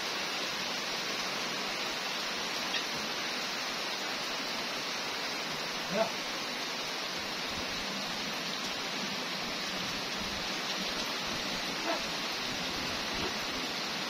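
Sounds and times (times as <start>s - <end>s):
rain falling on ground: 0.0s - 14.0s.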